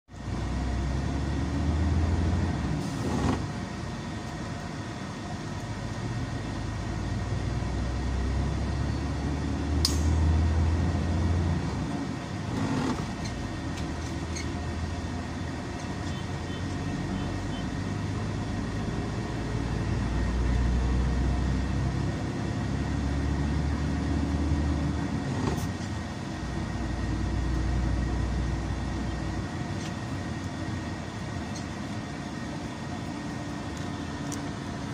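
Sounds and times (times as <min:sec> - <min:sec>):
bus engine and road rumble: 0:00.1 - 0:34.9.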